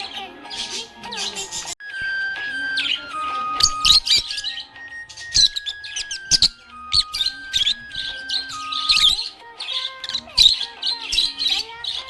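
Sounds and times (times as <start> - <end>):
background music melody: 0.0 - 12.0
budgerigar chirping and warbling: 0.0 - 12.0.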